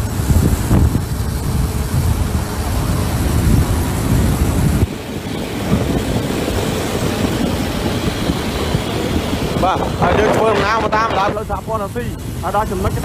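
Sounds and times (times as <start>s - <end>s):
traffic noise: 0.0s - 13.0s
wind buffeting microphone: 0.0s - 13.0s.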